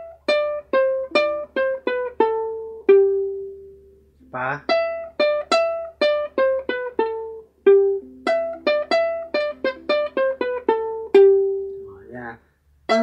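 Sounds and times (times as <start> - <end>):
ukulele melody: 0.0 - 13.0.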